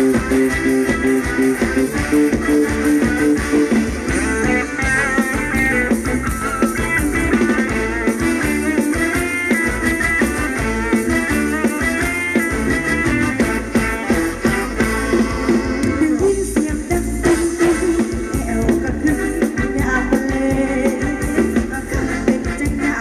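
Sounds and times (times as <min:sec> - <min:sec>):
dance-band music with steady beat: 0:00.0 - 0:23.0.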